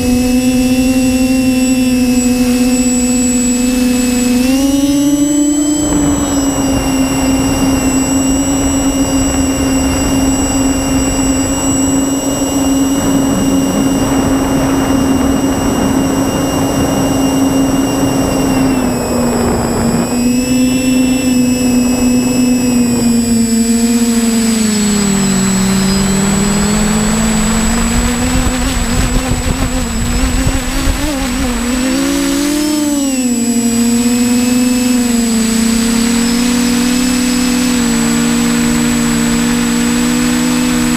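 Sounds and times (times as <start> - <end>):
drone motors humming: 0.0 - 40.9
wind noise: 0.0 - 40.9.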